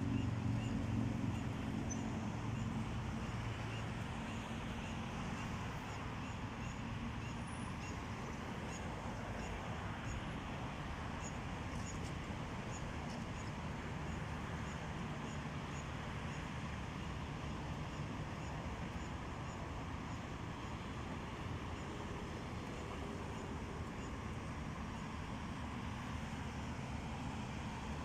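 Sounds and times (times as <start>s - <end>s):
distant road traffic rumble: 0.0s - 28.0s.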